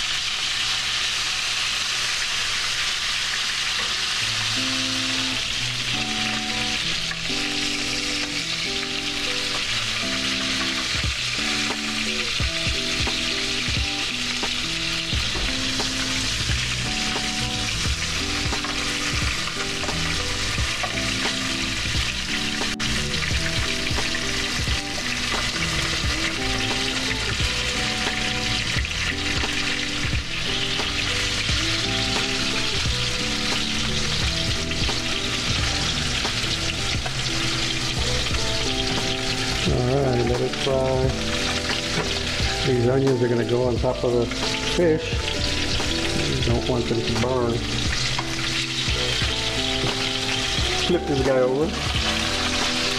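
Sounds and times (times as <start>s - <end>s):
fish frying in hot oil: 0.0s - 52.9s
background music with beat: 4.2s - 52.9s.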